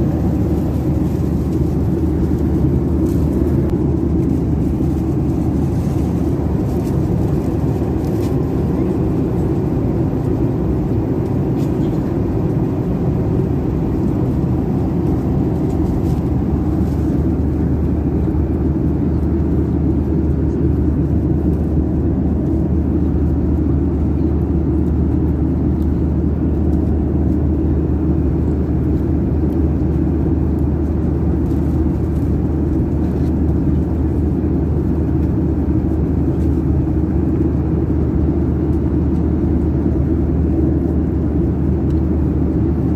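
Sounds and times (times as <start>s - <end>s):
aircraft cabin engine rumble: 0.0s - 42.9s.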